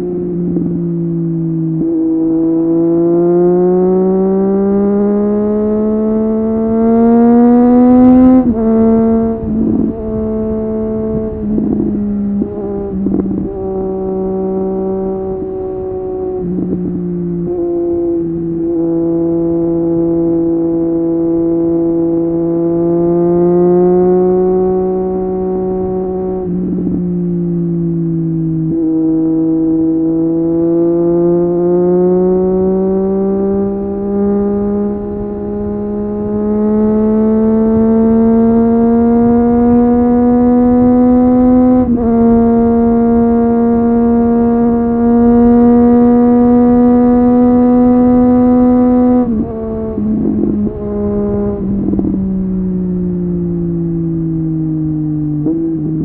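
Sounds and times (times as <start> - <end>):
motorcycle engine under throttle: 0.0 - 56.0.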